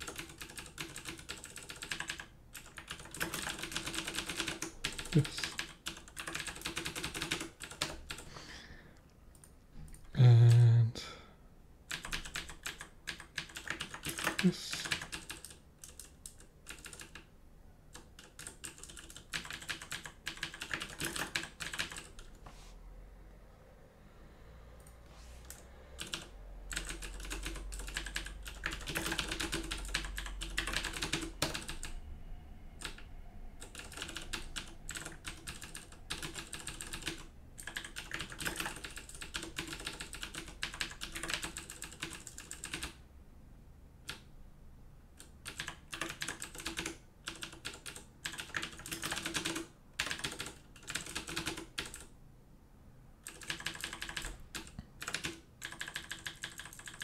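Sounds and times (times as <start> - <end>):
typing on computer keyboard: 0.0 - 8.3, 11.9 - 17.3, 17.9 - 22.4, 25.5 - 32.0, 32.8 - 43.0, 44.0 - 44.3, 45.2 - 52.1, 53.2 - 57.0.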